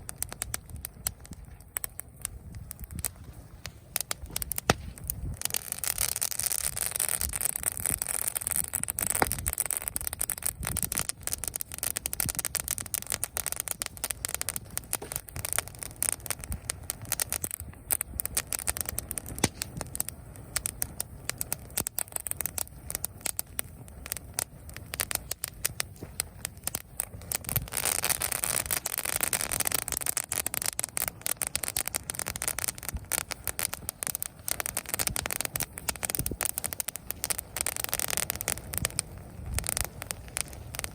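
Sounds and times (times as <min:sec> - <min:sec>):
burning leaves crackling and popping: 0:00.0 - 0:40.9.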